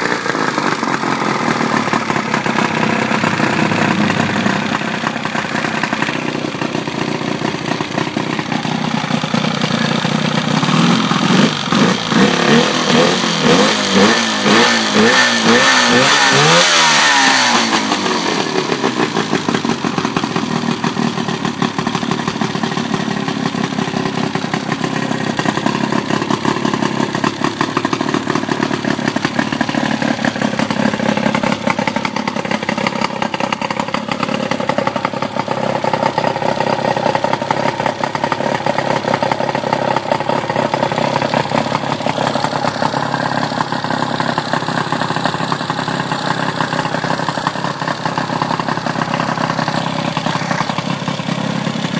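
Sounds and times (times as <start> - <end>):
outboard motor idling: 0.0 - 51.9.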